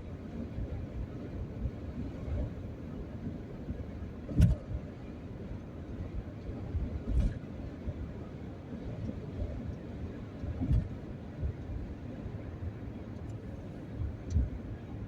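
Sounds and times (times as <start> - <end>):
vehicle rumble from inside: 0.0 - 15.0.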